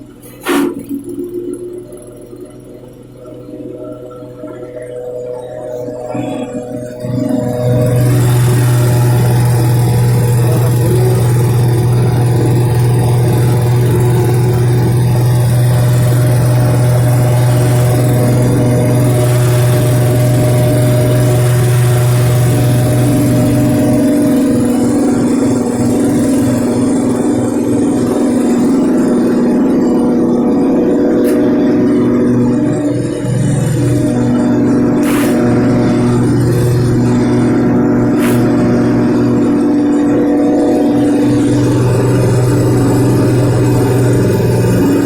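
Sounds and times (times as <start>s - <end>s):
grass chopper machine humming: 0.0s - 45.0s.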